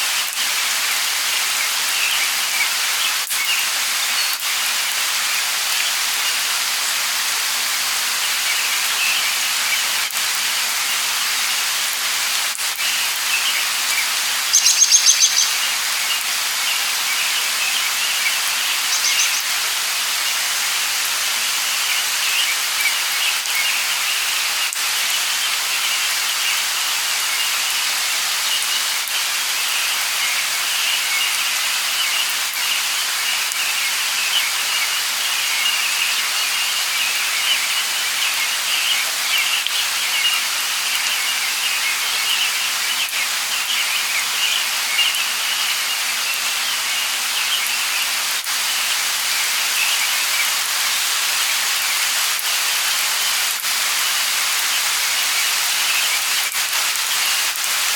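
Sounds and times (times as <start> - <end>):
light rain falling: 0.0 - 57.9.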